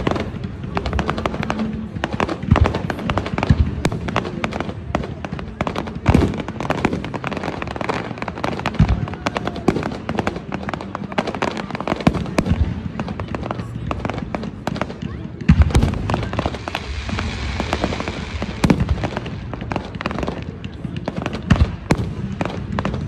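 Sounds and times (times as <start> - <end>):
deep fireworks booms: 0.0 - 23.0
fireworks cracks and pops: 0.0 - 23.0.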